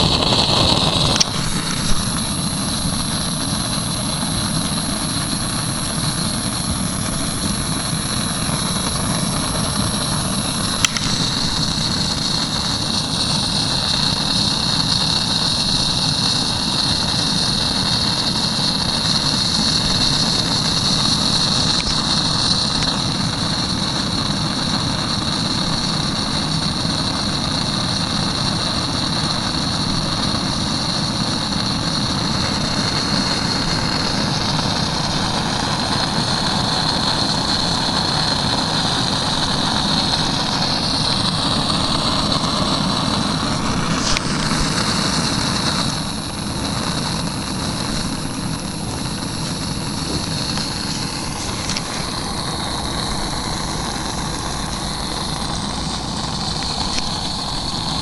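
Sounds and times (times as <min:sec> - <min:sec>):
model engine running: 0:00.0 - 0:58.0
steady high hiss: 0:00.0 - 0:58.0.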